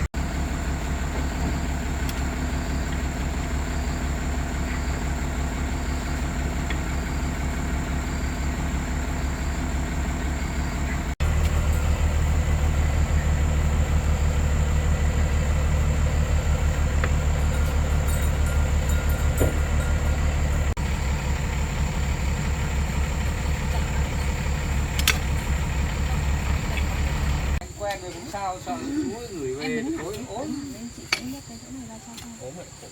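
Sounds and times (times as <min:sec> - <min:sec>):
diesel engine droning: 0:00.0 - 0:27.8.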